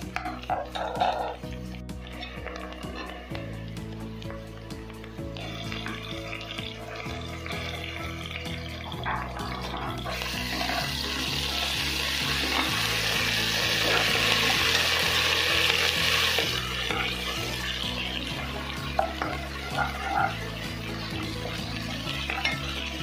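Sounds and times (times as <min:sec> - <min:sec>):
background music with bass: 0:00.0 - 0:23.0
onions sizzling in hot oil: 0:00.0 - 0:23.0
metal ladle stirring: 0:00.1 - 0:11.2, 0:13.8 - 0:23.0.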